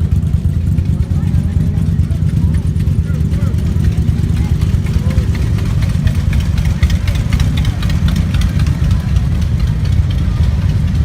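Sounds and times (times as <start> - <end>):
many motorcycle engines rumbling: 0.0 - 11.0.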